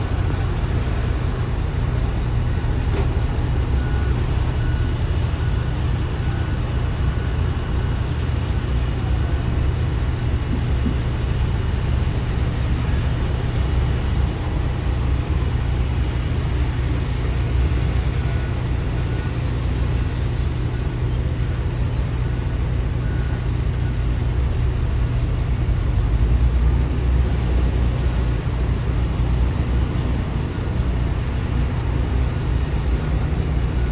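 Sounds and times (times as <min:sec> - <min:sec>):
heavy machinery diesel engines: 0:00.0 - 0:33.9.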